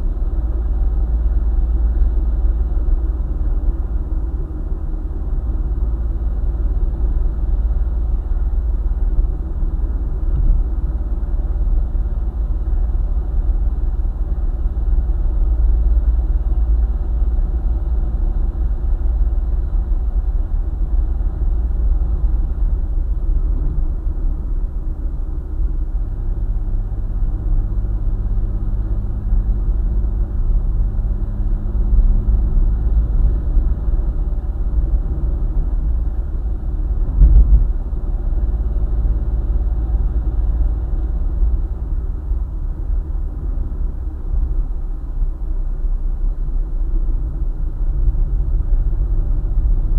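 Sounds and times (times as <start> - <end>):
car road rumble: 0.0 - 49.9
steady engine hum: 0.0 - 49.9.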